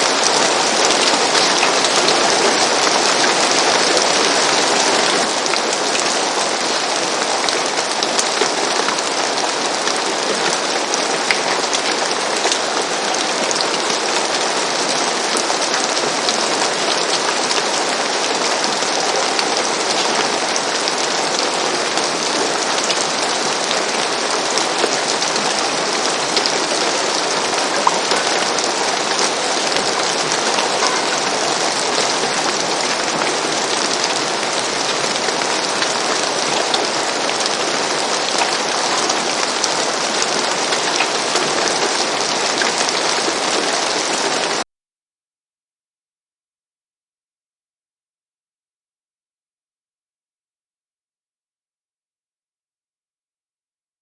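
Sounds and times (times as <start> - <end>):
rain falling on a roof: 0.0 - 44.6.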